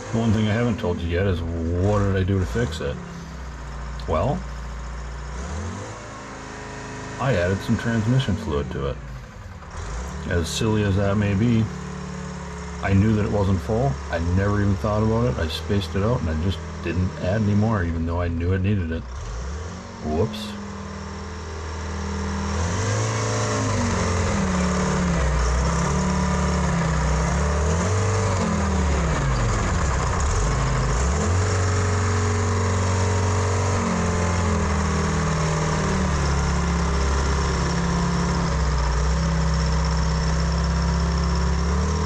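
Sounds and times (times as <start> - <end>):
wheel loader engine running: 0.0 - 42.0.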